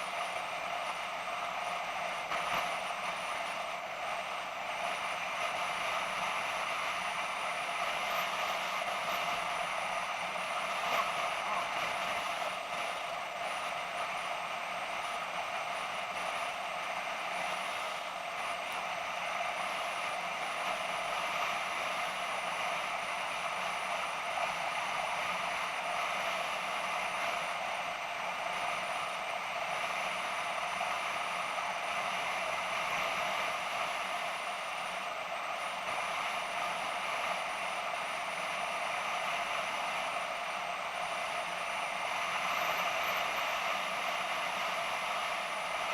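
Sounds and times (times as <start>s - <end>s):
thin high whine: 0.0s - 45.9s.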